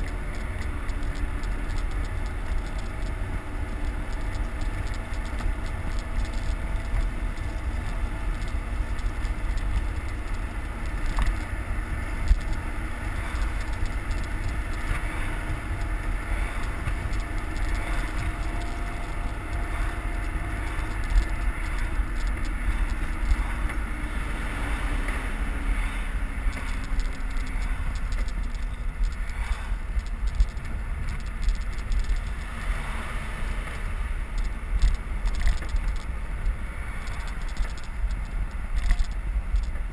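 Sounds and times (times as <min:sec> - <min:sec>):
road and tyre noise: 0:00.0 - 0:39.9
wind buffeting microphone: 0:00.0 - 0:39.9.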